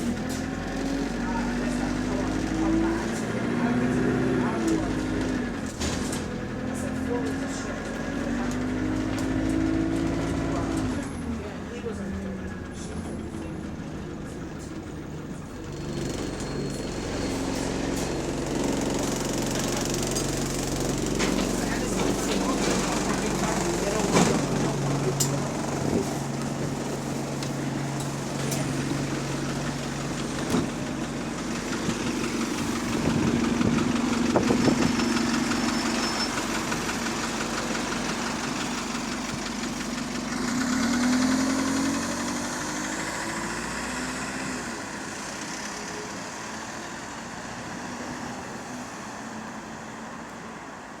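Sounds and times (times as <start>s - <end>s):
engine knocking: 0.0s - 47.7s
diesel bus engine running: 0.0s - 51.0s.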